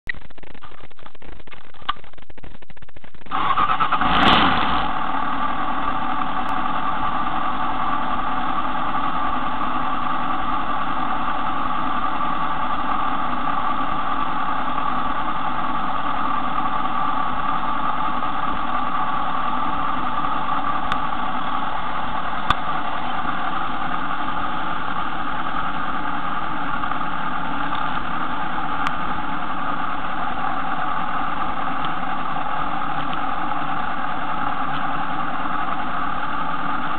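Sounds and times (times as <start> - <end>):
motorcycle engine starting and idling: 3.0 - 36.9.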